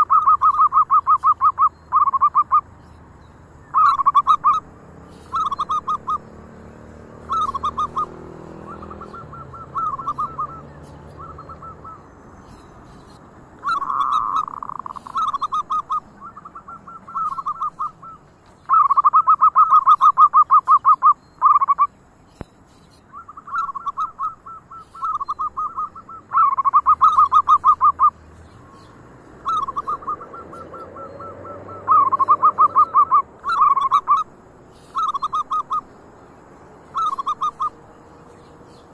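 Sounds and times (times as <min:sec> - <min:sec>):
doves cooing: 0:00.0 - 0:02.8, 0:03.5 - 0:21.9, 0:23.0 - 0:36.1, 0:36.7 - 0:38.9.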